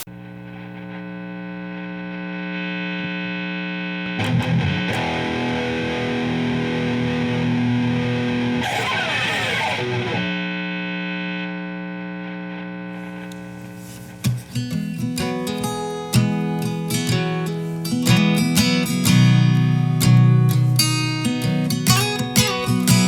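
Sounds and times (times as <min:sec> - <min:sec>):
distorted electric guitar music: 0:00.0 - 0:23.0.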